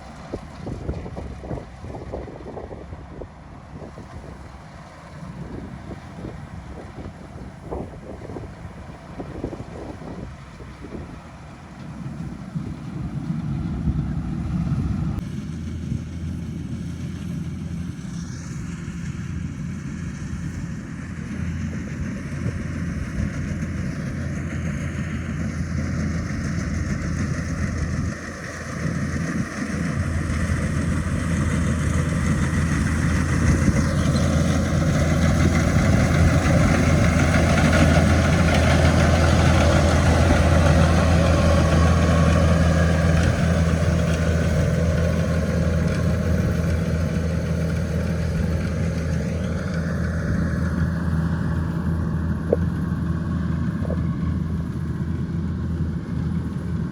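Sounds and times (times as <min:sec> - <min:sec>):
harvesting machine engine running: 0:00.0 - 0:56.9.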